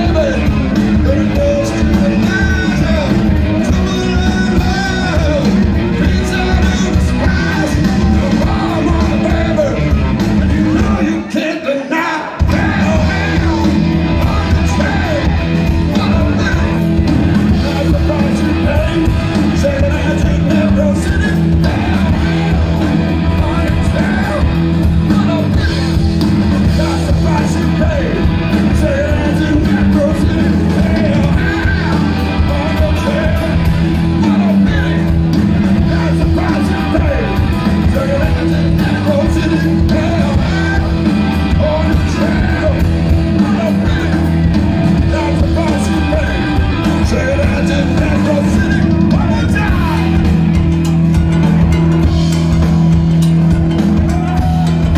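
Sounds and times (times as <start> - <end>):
man singing: 0.0 - 50.3
hard rock band playing live: 0.0 - 54.9.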